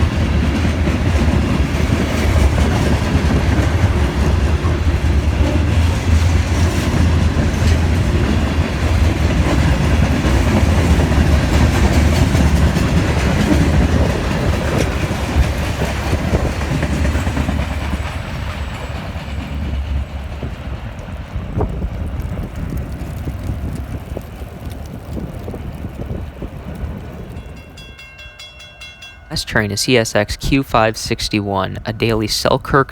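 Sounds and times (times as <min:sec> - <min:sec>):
wheels clacking over rail joints: 0:00.0 - 0:29.3
freight train rolling past: 0:00.0 - 0:32.9.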